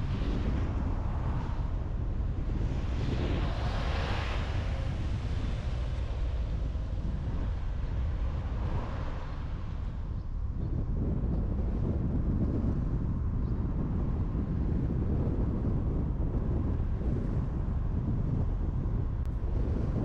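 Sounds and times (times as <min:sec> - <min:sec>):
car road and wind rumble: 0:00.0 - 0:20.0.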